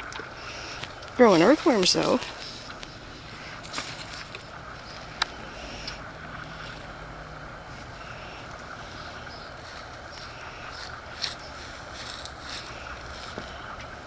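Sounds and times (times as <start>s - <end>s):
soil rustling and scraping: 0.0s - 7.1s, 7.7s - 14.0s
low background hum: 0.0s - 14.0s.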